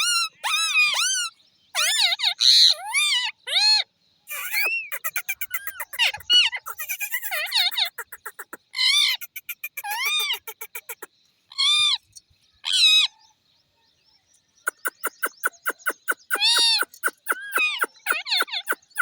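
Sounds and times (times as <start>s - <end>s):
parakeets screeching: 0.0s - 12.0s, 14.7s - 19.0s.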